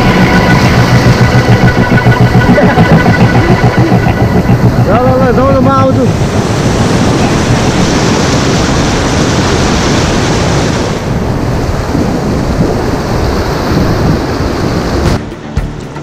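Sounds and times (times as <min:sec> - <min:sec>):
water splashing around boat: 0:00.0 - 0:16.0
whitewater rapid rushing: 0:00.0 - 0:16.0.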